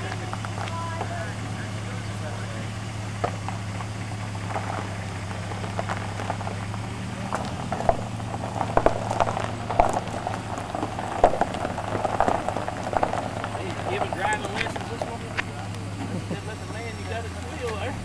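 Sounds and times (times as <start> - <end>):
crackling and crunching: 0.0 - 16.9
truck engine idling: 0.0 - 18.0.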